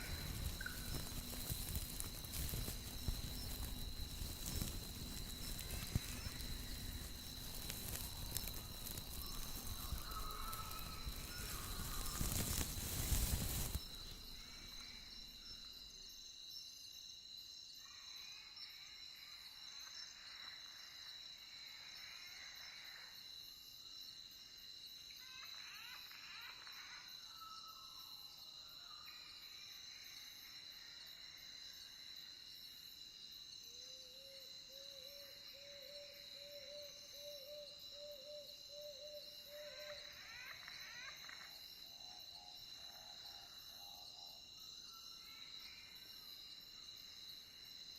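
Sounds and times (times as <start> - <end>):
crickets trilling: 0.0 - 47.9.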